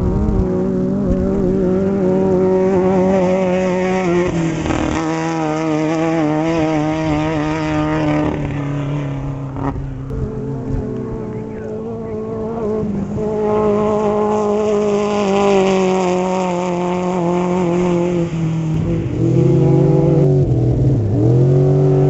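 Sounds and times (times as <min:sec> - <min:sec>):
race vehicle engine passing by: 0:00.0 - 0:22.0.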